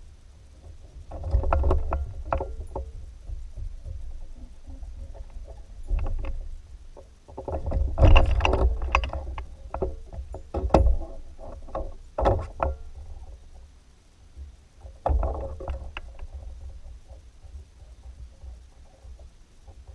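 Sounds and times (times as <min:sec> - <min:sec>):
wind rumble on microphone: 0:00.0 - 0:19.9.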